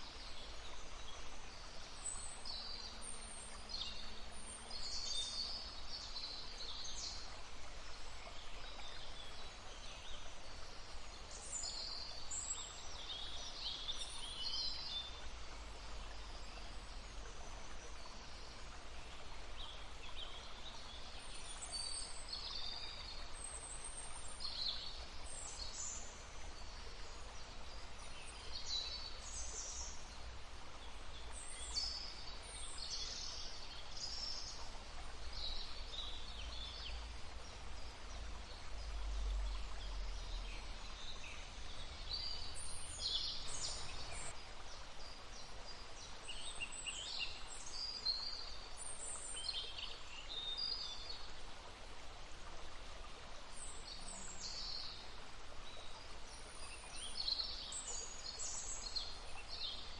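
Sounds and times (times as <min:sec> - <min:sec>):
songbirds chirping and trilling: 0:00.0 - 0:51.2
stream flowing: 0:00.0 - 0:59.9.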